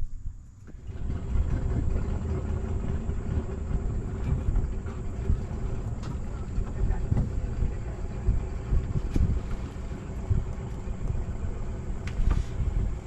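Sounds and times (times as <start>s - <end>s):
wind buffeting microphone: 0.0s - 13.0s
boat motor running: 0.5s - 13.0s.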